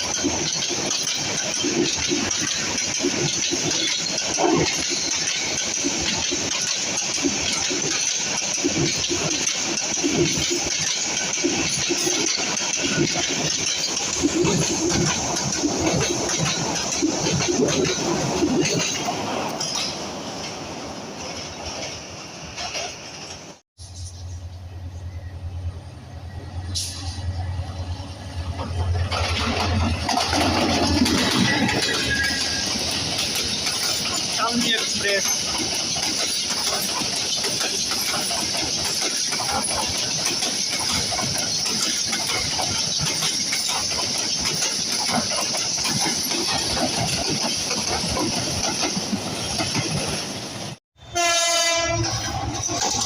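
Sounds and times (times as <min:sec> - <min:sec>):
diesel locomotive engine rumble: 0:00.0 - 0:53.0
train cars rattling: 0:00.0 - 0:53.0.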